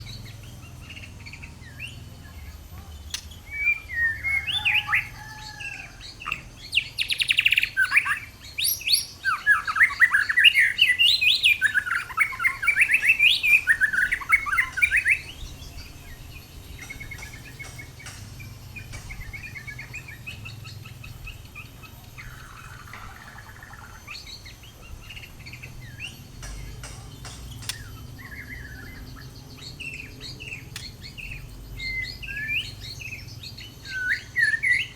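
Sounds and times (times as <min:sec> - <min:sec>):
bird chirps and calls: 0:00.0 - 0:34.9
bird singing loud varied song: 0:00.0 - 0:34.9.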